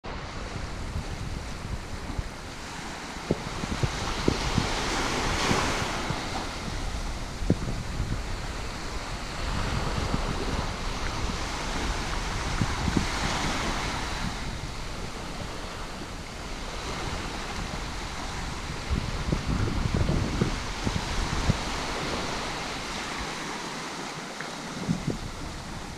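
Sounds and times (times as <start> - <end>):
small waves breaking on shore: 0.1 - 25.9
wind buffeting microphone: 0.1 - 25.9.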